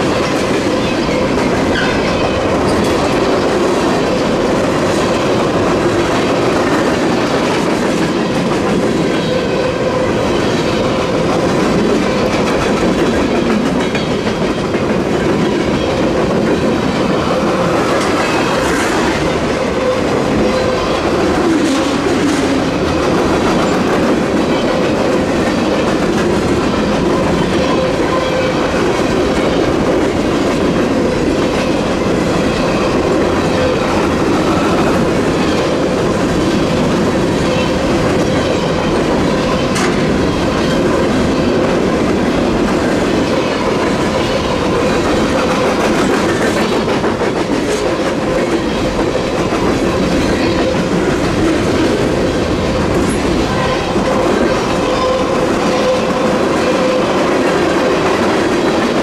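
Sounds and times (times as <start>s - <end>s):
train wheels clacking on rails: 0.0s - 59.0s.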